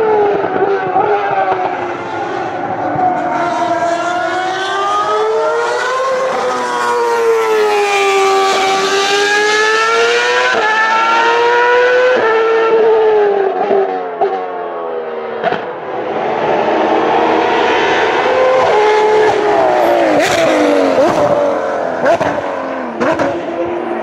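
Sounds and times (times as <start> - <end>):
racing car engine revving: 0.0 - 14.5, 15.2 - 24.0.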